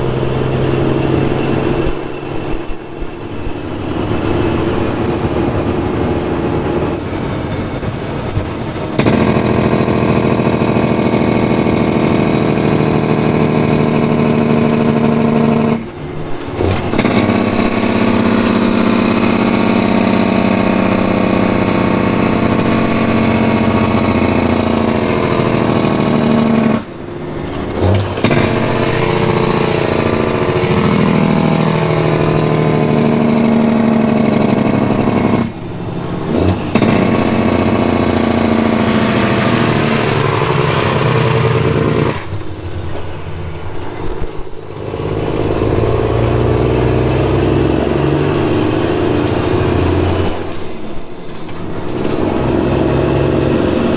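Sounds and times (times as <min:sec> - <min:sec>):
truck diesel engine pulling: 0:00.0 - 0:53.9.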